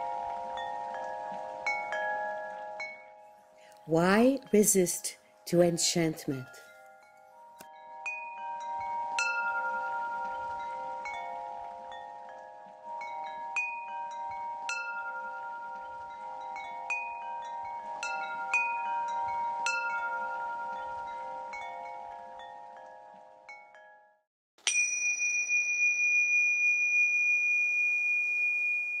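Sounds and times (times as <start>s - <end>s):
chimes ringing: 0.0s - 29.0s
high bell-like tone: 0.0s - 29.0s.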